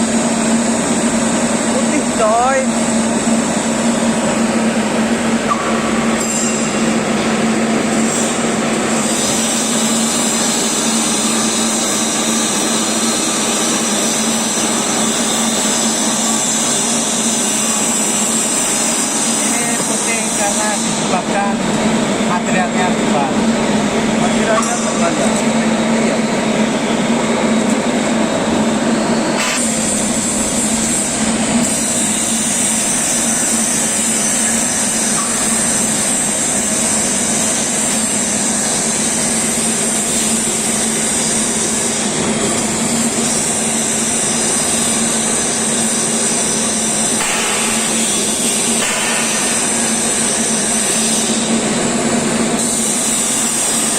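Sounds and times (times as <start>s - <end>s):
welding arc buzzing and hissing: 0.0s - 26.6s, 27.2s - 53.9s.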